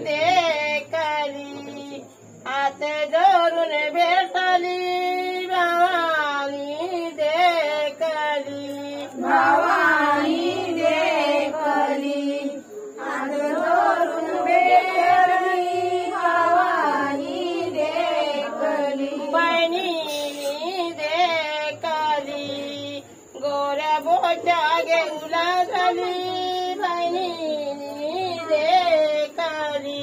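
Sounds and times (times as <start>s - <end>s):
women singing devotional song: 0.0s - 30.0s.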